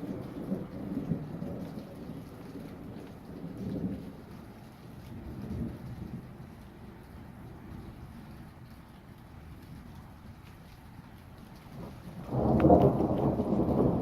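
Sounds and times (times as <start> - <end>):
thunder rumbling: 0.0 - 8.5, 11.0 - 14.0.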